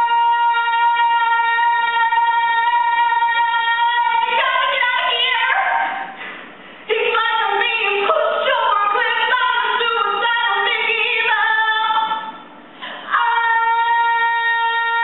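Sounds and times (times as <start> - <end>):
woman singing: 0.0 - 6.1, 6.9 - 15.0.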